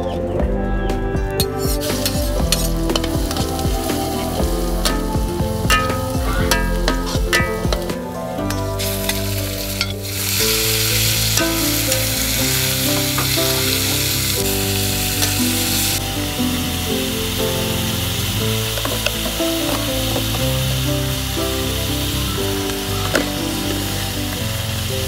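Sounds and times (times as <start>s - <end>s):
food sizzling in a wok: 1.8s - 25.0s.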